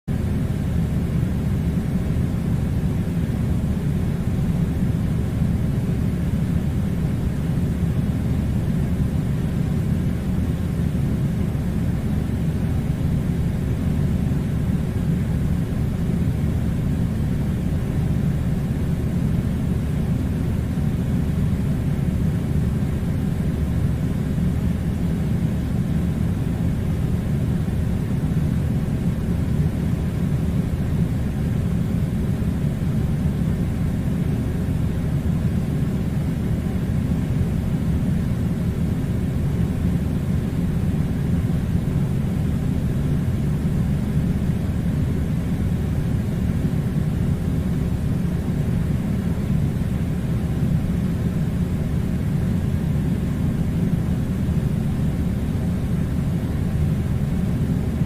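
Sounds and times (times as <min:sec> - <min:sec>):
air conditioner low rumble: 0:00.1 - 0:58.0.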